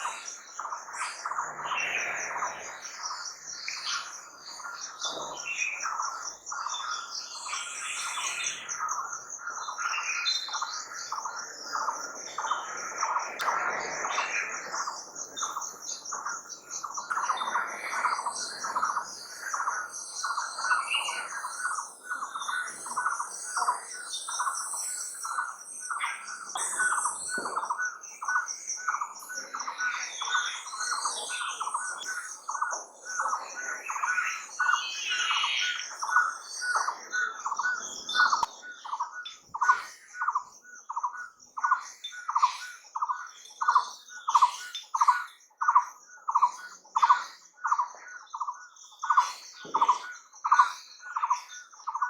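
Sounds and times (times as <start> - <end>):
scattered bird calls: 0.0 - 52.0.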